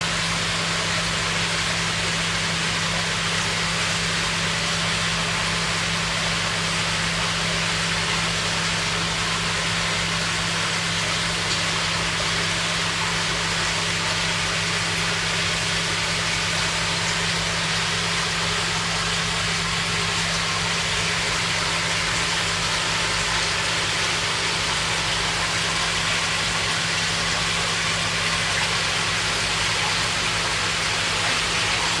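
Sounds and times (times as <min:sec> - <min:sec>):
electric hum: 0:00.0 - 0:32.0.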